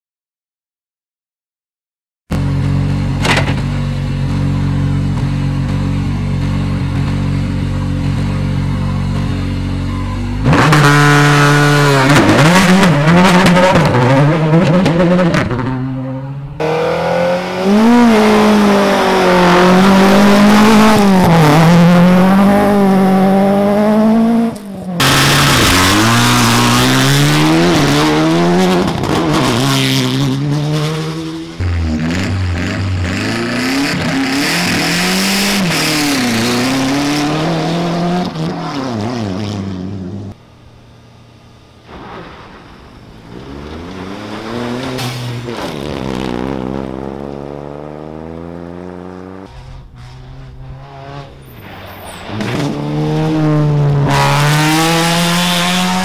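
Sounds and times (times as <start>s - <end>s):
rally car engines at full throttle: 2.3s - 56.0s.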